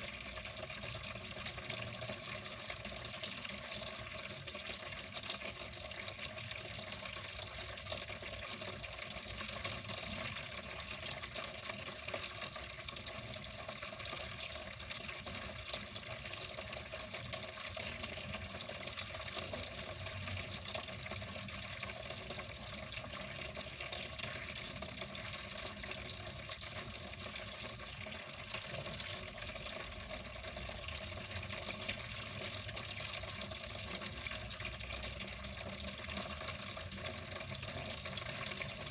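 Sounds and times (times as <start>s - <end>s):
water running in a stream: 0.0s - 38.9s.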